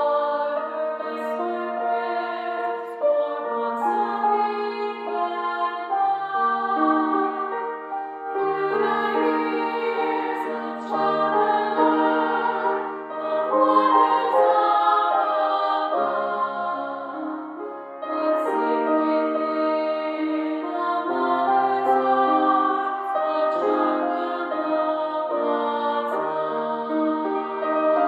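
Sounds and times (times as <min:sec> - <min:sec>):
mixed choir singing a hymn: 0:00.0 - 0:28.0.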